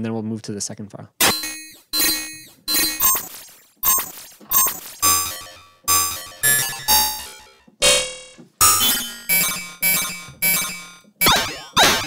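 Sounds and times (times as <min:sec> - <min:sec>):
synthesized glitch hits: 0:01.2 - 0:12.0.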